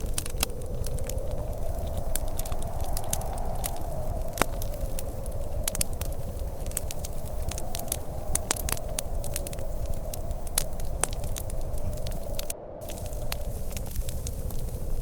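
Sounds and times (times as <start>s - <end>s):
low wind rumble: 0.0s - 15.0s
wood fire crackling and popping: 0.0s - 15.0s.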